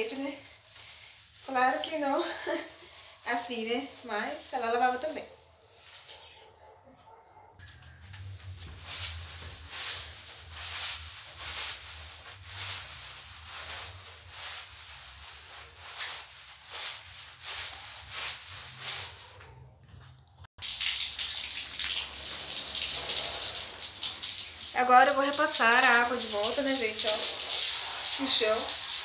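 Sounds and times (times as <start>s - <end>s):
hose water gushing onto floor: 0.0s - 4.8s, 8.9s - 19.1s, 20.6s - 29.0s
brush scrubbing floor: 0.0s - 5.4s, 7.8s - 19.8s, 22.4s - 29.0s.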